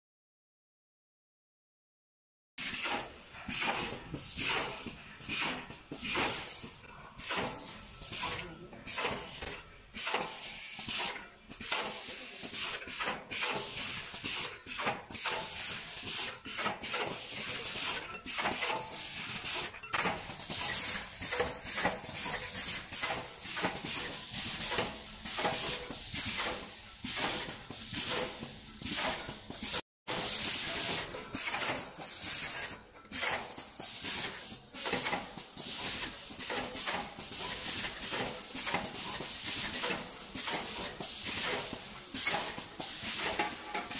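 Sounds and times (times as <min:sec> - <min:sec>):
machine mechanism clattering: 0:02.6 - 0:43.9.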